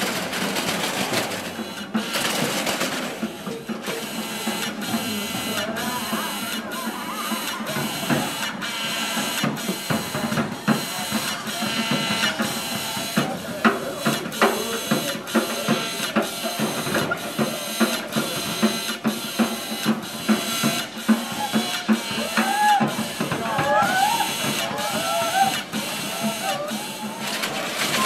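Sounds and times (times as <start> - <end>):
mechanical percussion beat: 0.0 - 28.0.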